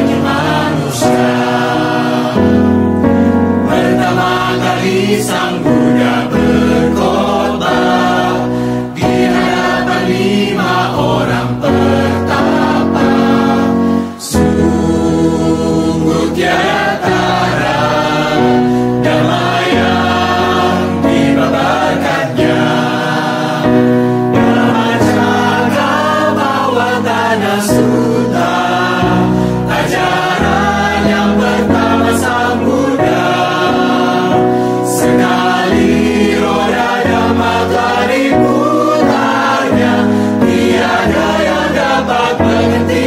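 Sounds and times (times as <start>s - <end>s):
mixed choir singing: 0.0s - 43.0s.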